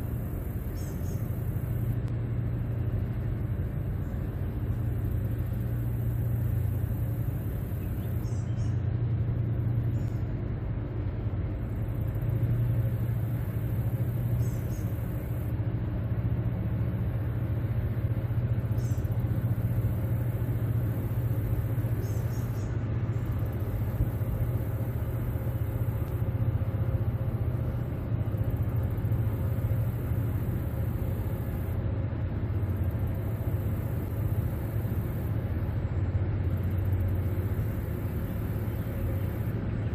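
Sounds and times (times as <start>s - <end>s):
diesel engines rumbling under load: 0.0s - 39.9s.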